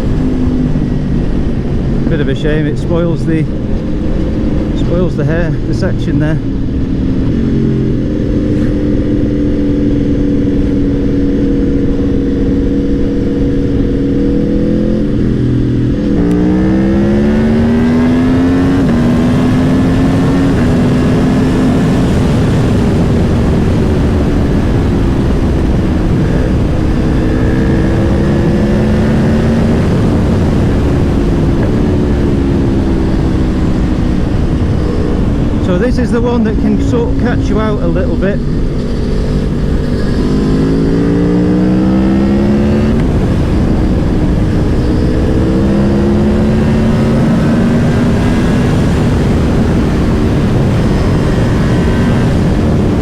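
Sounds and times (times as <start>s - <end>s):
motorcycle engine at speed: 0.0s - 53.0s
wind rushing over microphone: 0.0s - 53.0s.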